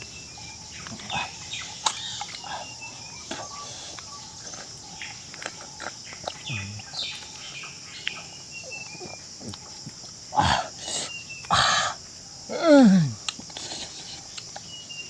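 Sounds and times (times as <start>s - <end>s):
birds chirping: 0.0s - 15.0s
high insect drone: 0.0s - 15.0s.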